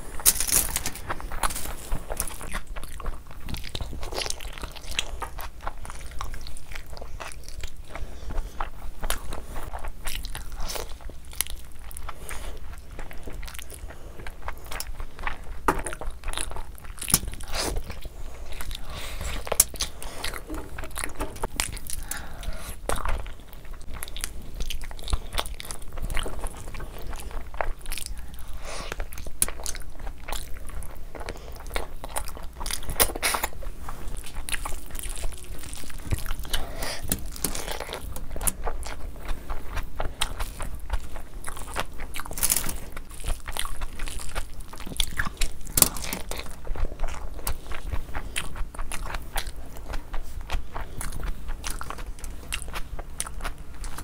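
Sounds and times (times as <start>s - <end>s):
chewing and mouth sounds: 0.0s - 54.0s.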